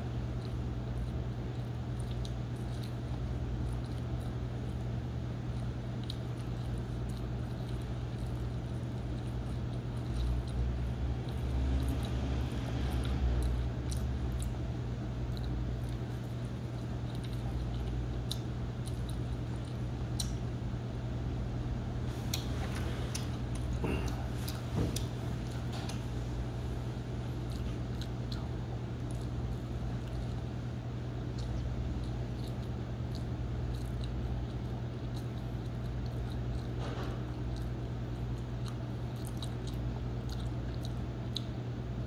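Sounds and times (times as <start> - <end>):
person chewing food: 0.0 - 42.0
steady low hum: 0.0 - 42.0.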